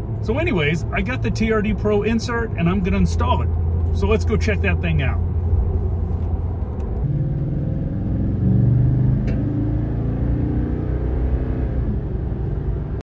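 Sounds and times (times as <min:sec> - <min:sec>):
road rumble: 0:00.0 - 0:13.0
truck engine accelerating: 0:00.0 - 0:13.0.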